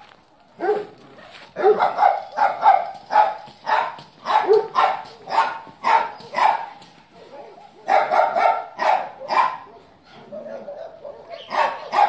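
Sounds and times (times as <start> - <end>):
dog barking: 0.6 - 0.9, 1.6 - 6.8, 7.4 - 12.0.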